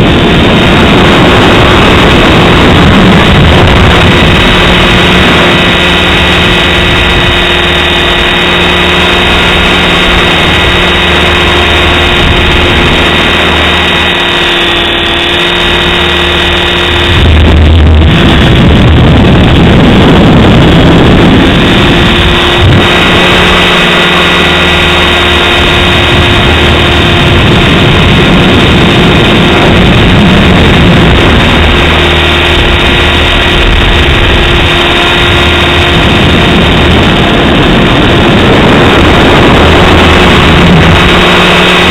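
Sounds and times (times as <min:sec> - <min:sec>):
rc helicopter whine: 0:00.0 - 0:41.9
wind buffeting microphone: 0:00.0 - 0:41.9.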